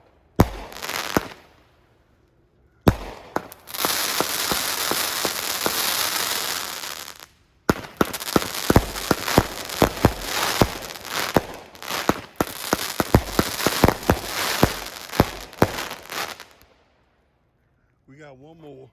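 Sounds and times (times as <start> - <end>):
firework bangs: 0.0 - 1.7, 2.9 - 16.7
fireworks crackling: 0.0 - 1.9, 2.9 - 16.8.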